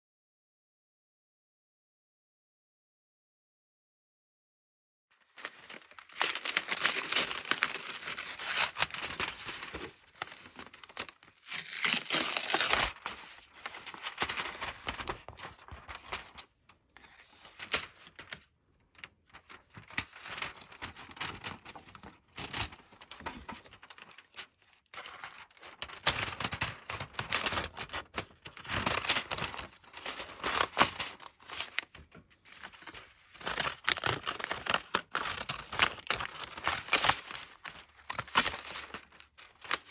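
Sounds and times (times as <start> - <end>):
paper crinkling and tearing: 5.2 - 39.9.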